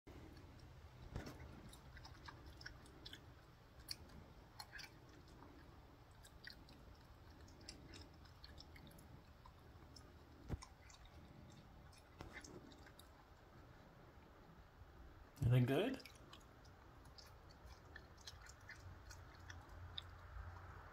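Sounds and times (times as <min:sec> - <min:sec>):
paws dabbling in water: 0:00.1 - 0:14.6, 0:15.9 - 0:20.9
raccoon chewing: 0:00.1 - 0:20.9.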